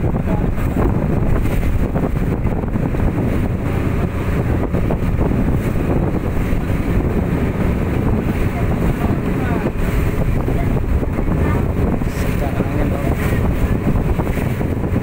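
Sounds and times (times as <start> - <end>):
motor boat engine: 0.0 - 15.0
wind buffeting microphone: 0.0 - 15.0.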